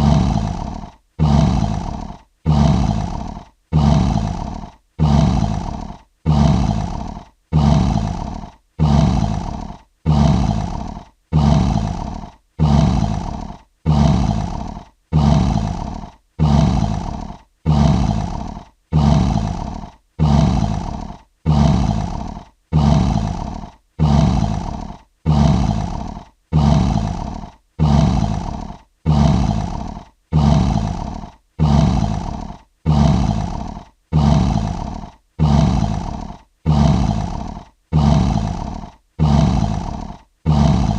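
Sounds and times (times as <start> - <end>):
lion roars: 0.0 - 40.9.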